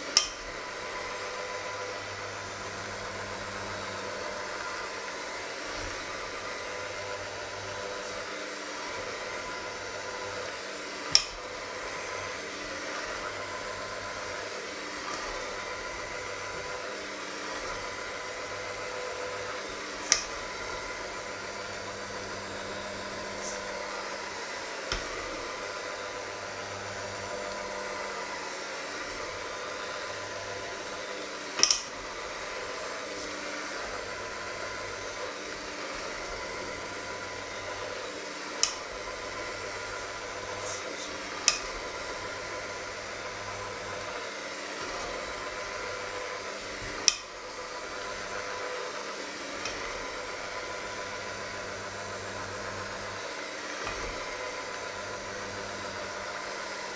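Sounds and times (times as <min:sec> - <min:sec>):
electric hand mixer running: 0:00.0 - 0:56.9.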